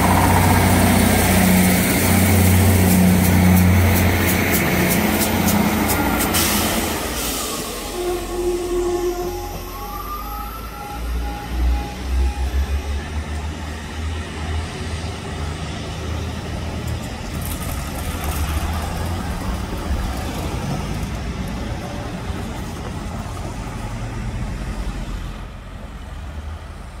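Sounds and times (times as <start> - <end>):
diesel train engine rumble: 0.0 - 27.0
train wheel noise: 0.0 - 27.0.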